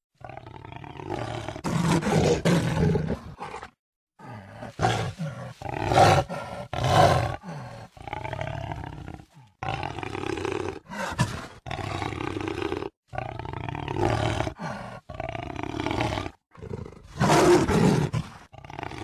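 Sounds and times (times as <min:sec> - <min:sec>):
jaguar roaring and growling: 0:00.2 - 0:19.0.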